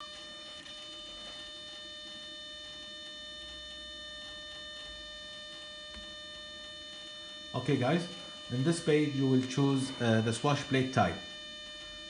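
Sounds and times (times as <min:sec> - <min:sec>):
faint electrical whine: 0:00.0 - 0:12.0.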